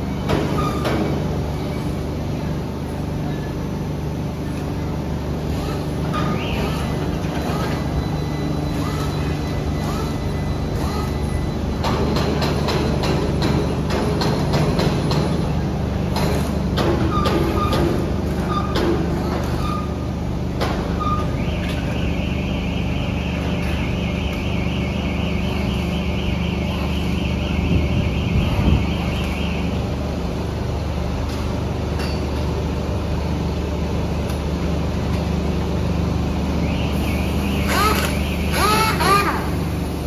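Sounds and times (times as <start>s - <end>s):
factory machinery humming: 0.0s - 40.0s.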